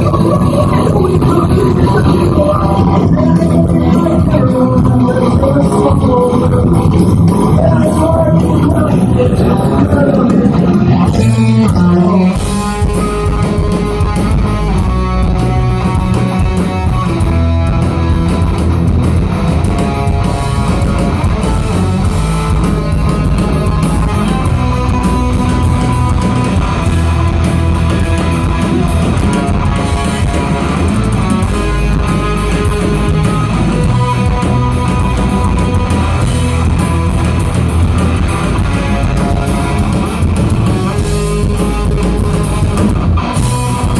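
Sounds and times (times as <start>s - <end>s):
electric guitar: 0.0s - 43.9s
rock band playing live: 0.0s - 43.9s.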